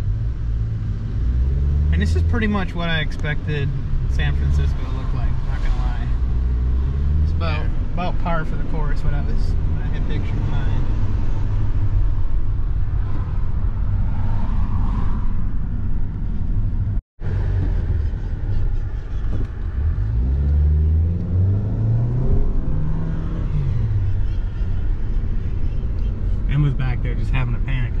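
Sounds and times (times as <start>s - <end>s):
car engine accelerating: 0.0s - 28.0s
road rumble: 0.0s - 28.0s.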